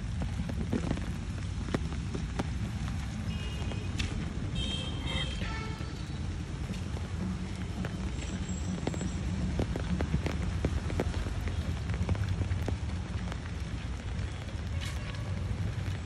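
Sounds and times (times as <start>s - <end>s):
rain falling on water: 0.0s - 16.0s.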